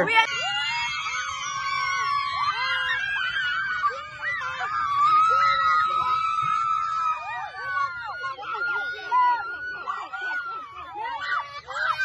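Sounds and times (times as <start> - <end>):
children screaming in play: 0.0 - 12.0.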